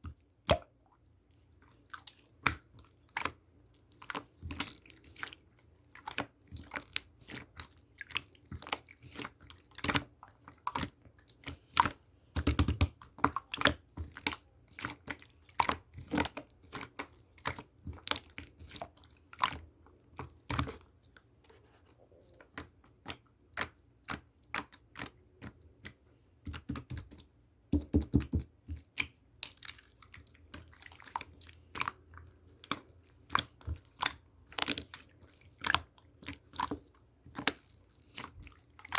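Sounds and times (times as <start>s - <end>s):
slime squishing: 0.0s - 38.9s.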